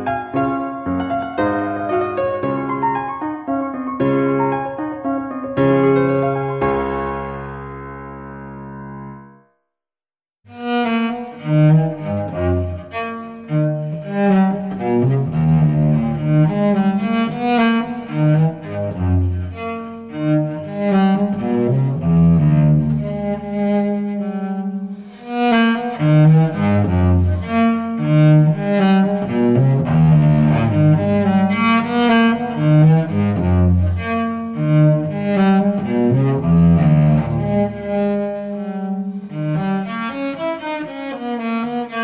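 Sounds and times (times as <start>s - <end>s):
instrumental classical music: 0.0s - 9.7s, 10.5s - 42.0s.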